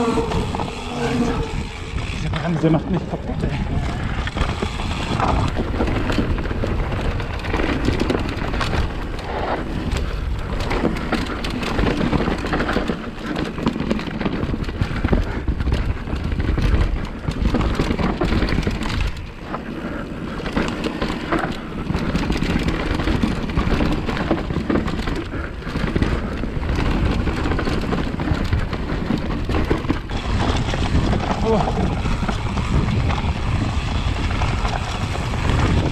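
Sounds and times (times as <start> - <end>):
bike rattling: 0.0 - 35.9
tyres crunching over dirt trail: 0.0 - 35.9
wind rumbling on microphone: 0.0 - 35.9.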